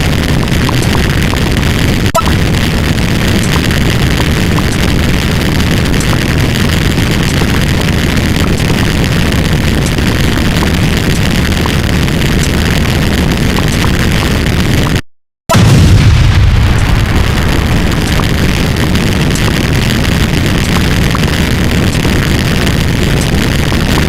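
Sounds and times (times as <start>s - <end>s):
jumble of sound effects: 0.0s - 24.0s.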